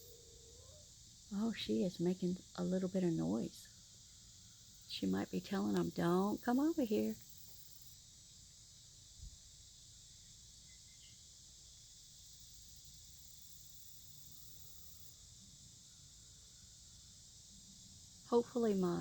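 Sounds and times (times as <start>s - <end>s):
faint high-pitched hiss: 0.0s - 19.0s.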